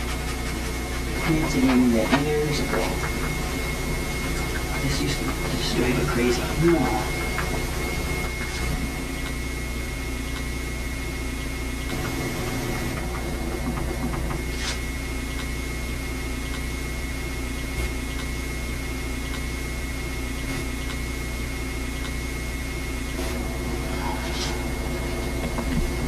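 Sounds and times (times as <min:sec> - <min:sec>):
camcorder hiss and hum: 0:00.0 - 0:26.0.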